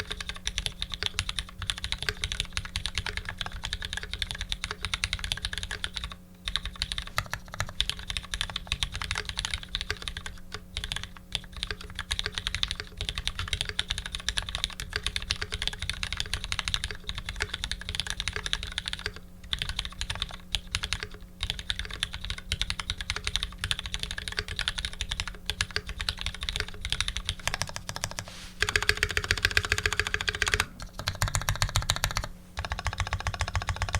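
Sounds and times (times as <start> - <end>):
fast typing on mechanical keyboard: 0.0 - 33.9.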